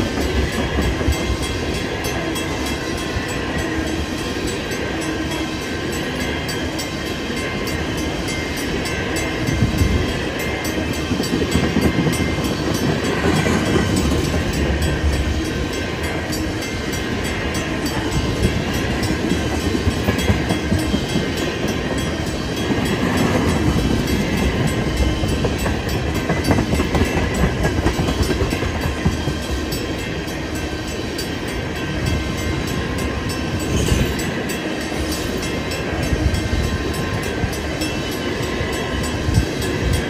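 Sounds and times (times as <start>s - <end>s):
freight train wheels rumbling: 0.0s - 40.0s
rhythmic clatter over rail joints: 0.0s - 40.0s.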